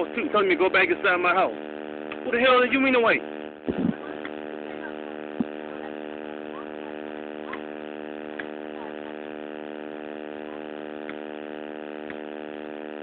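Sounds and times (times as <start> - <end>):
steady electrical buzz: 0.0 - 13.0.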